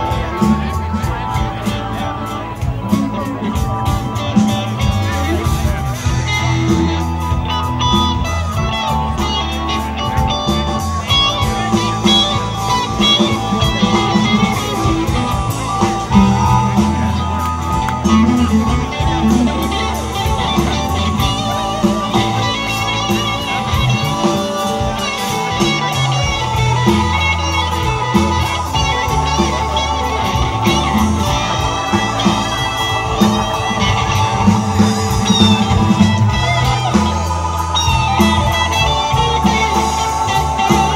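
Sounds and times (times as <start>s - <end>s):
bass guitar: 0.0s - 40.9s
drum kit beat: 0.0s - 40.9s
electric guitar: 0.0s - 40.9s
electric keyboard: 0.0s - 40.9s.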